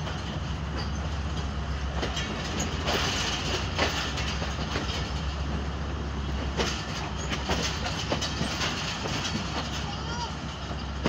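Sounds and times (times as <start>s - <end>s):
train rumbling on track: 0.0s - 11.0s
wheels clacking over rail joints: 0.0s - 11.0s.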